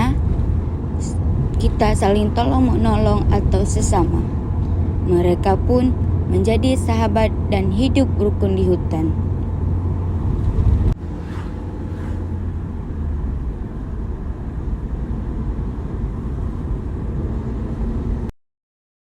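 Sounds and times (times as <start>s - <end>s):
low rumbling background noise: 0.0s - 18.3s.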